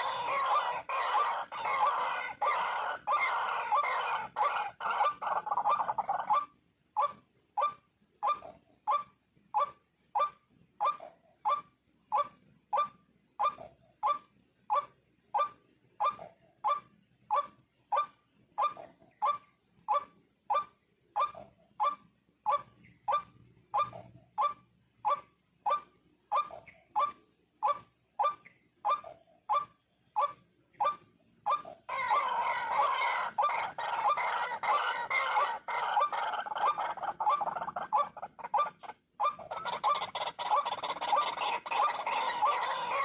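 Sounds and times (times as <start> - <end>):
waterhen calling: 0.0 - 43.0.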